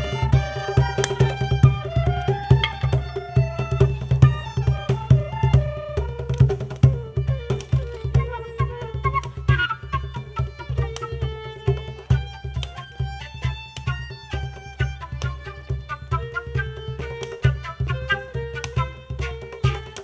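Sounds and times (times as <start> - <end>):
sliding melodic instrument: 0.0 - 20.0.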